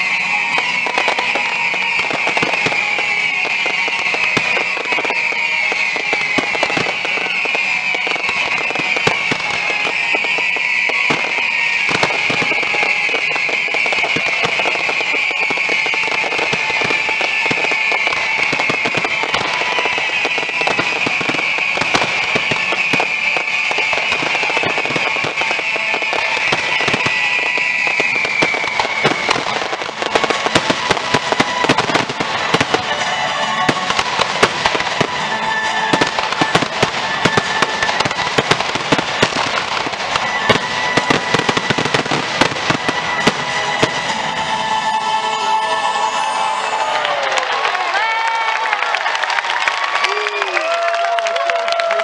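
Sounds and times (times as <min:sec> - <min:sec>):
fireworks whistling: 0:00.0 - 0:48.8
fireworks crackling and banging: 0:00.0 - 0:52.0.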